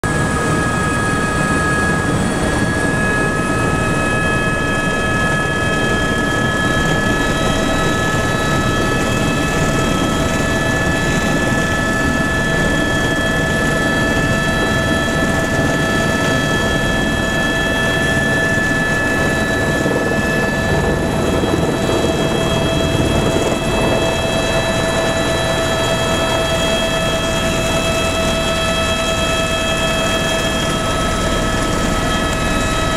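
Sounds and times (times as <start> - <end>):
helicopter engine and rotor noise: 0.0 - 32.9.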